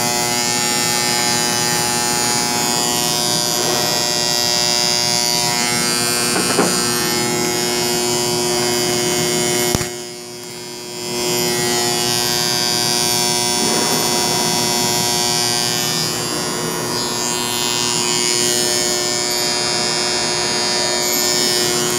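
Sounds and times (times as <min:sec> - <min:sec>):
electrical contactors humming: 0:00.0 - 0:21.9.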